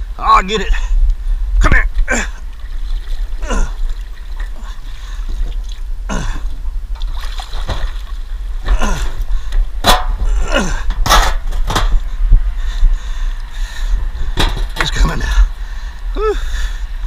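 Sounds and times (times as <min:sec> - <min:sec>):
water splashing and sloshing: 0:01.7 - 0:17.0.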